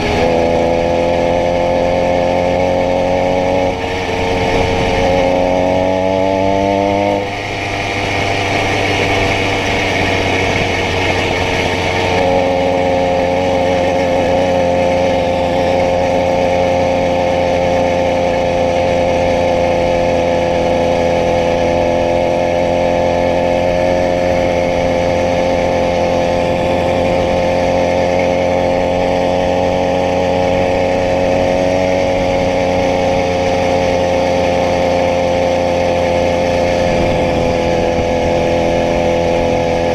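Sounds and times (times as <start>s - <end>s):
small bicycle engine running: 0.0s - 39.9s.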